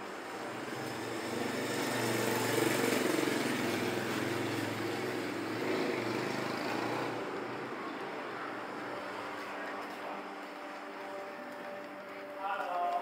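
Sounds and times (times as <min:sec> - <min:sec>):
vehicle engine passing: 0:00.3 - 0:11.4.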